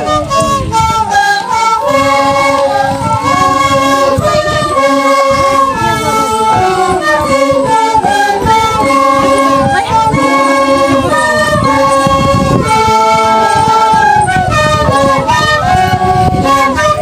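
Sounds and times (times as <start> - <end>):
group singing high notes: 0.0 - 17.0.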